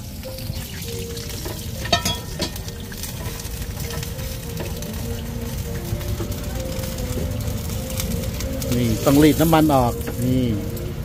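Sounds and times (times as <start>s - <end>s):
batter frying in hot oil: 0.0s - 11.0s.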